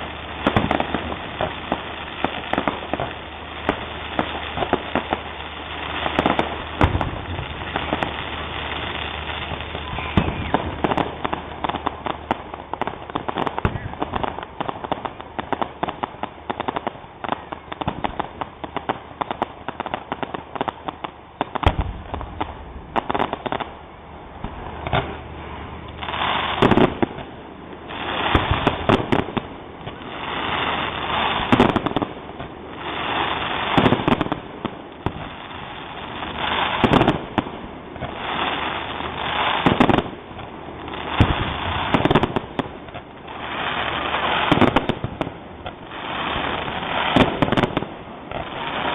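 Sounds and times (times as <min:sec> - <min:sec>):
firework shells booming: 0:00.0 - 0:23.8, 0:24.4 - 0:48.9
fireworks crackling pops: 0:00.0 - 0:48.9.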